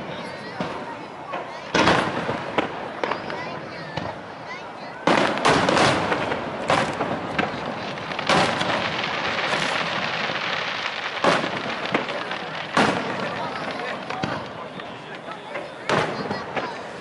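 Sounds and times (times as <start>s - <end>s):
firework shells booming: 0.0s - 4.3s, 5.0s - 17.0s.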